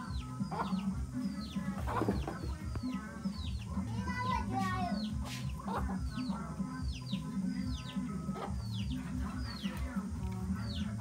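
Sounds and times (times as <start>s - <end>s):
chicken clucking: 0.0s - 11.0s
music with steady beat and bass: 0.0s - 11.0s.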